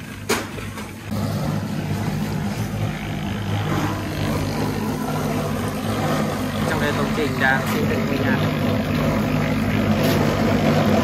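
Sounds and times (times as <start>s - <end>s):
machine humming: 0.8s - 11.0s.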